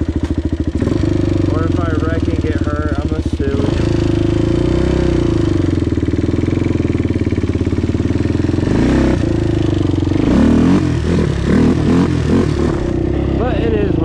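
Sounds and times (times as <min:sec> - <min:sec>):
quad engine running: 0:00.0 - 0:14.0.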